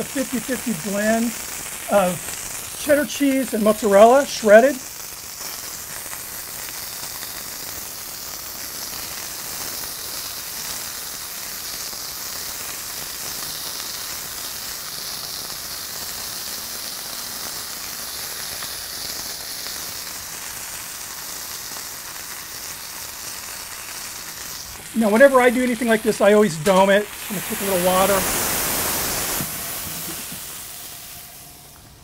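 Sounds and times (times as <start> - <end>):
patty sizzling on griddle: 0.0 - 32.0.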